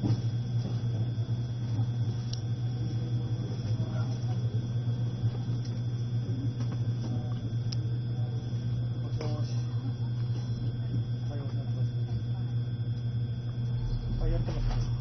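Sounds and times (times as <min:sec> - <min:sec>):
electric train cabin hum: 0:00.0 - 0:15.0
faint voices: 0:00.5 - 0:15.0.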